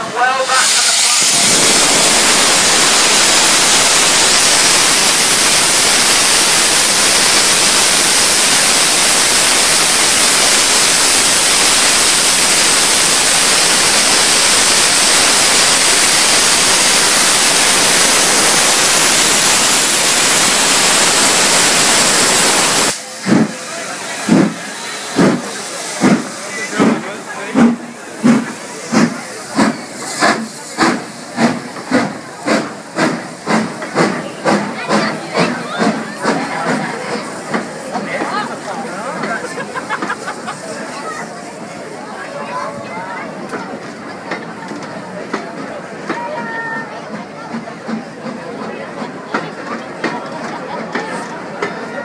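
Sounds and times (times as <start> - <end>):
steam locomotive exhaust chuffs: 0.0 - 42.0, 43.2 - 52.0
steam hissing: 0.0 - 52.0.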